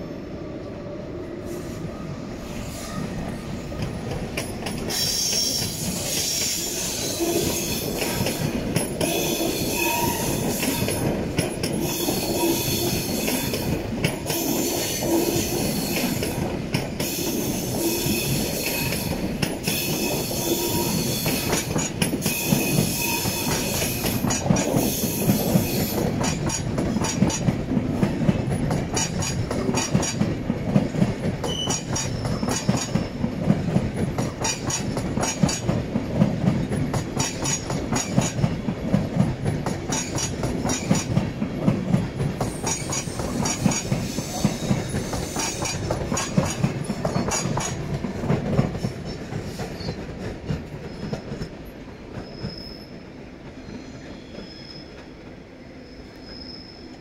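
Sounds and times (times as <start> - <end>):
train rumble: 0.0 - 57.0
train wheels clacking over rail joints: 3.8 - 52.6.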